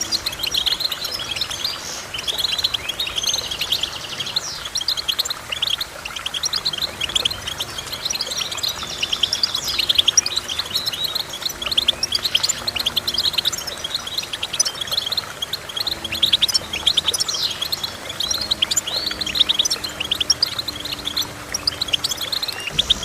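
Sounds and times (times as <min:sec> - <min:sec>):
finch singing: 0:00.0 - 0:23.0.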